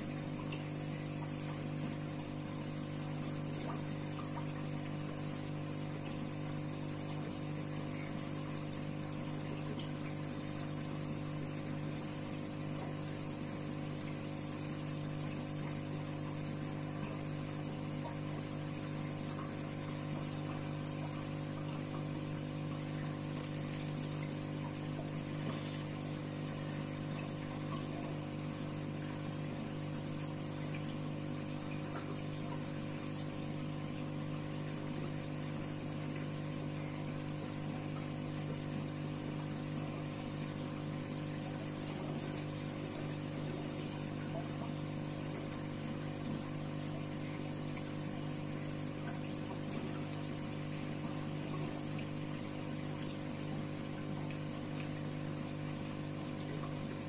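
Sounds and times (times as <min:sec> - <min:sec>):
electrical hum: 0:00.0 - 0:57.0
water trickling: 0:00.0 - 0:57.0.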